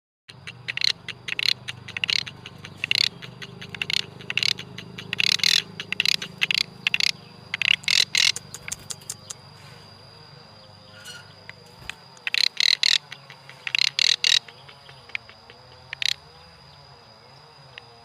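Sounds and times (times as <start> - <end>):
bird chattering: 0.3 - 9.6, 10.8 - 16.4
steady low hum: 0.3 - 18.0.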